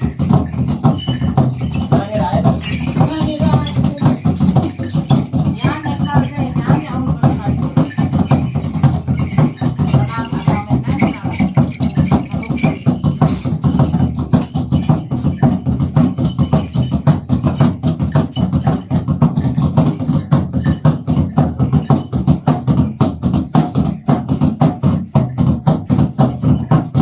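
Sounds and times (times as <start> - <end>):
fast steady drumbeats: 0.0 - 27.0.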